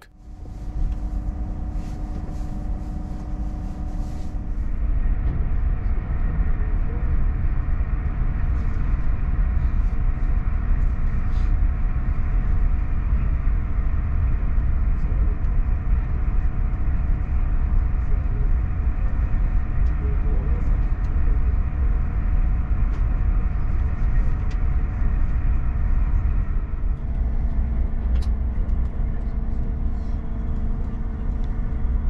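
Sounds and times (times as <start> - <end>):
high-speed train rumbling: 0.0 - 32.0.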